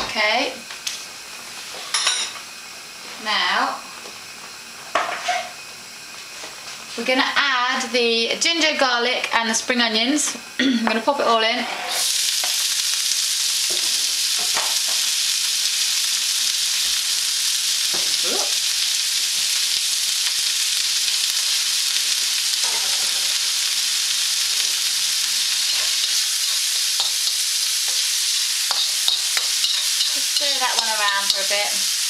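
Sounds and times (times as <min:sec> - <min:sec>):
aromatics sizzling in oil: 0:00.0 - 0:32.0.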